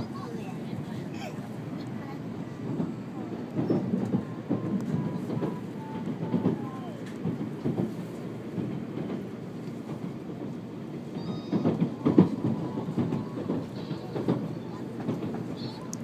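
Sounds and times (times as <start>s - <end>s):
train cabin low rumble: 0.0s - 16.0s.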